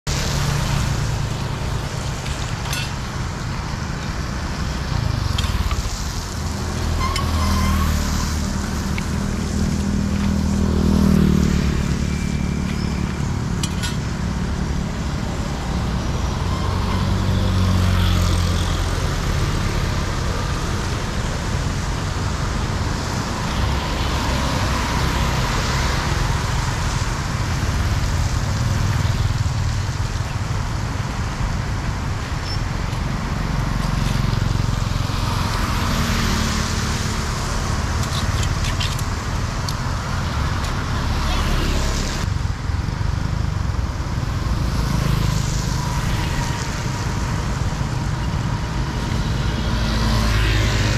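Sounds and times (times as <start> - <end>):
motor vehicle rumble: 0.0 - 50.9.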